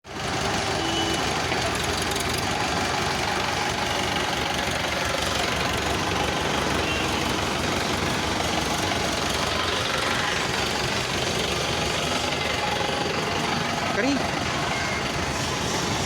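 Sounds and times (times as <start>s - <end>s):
tractor diesel engine idling: 0.1s - 16.0s.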